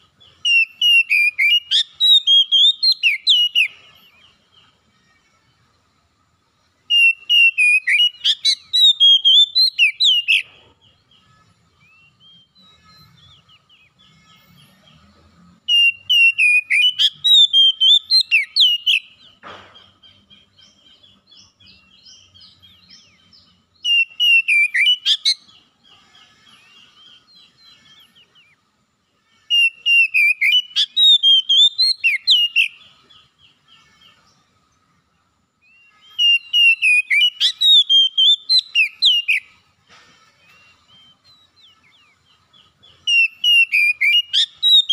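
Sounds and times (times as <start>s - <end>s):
magpie-robin singing: 0.0s - 4.8s, 6.9s - 15.0s, 15.7s - 28.6s, 29.4s - 34.5s, 35.6s - 39.7s, 40.3s - 44.9s.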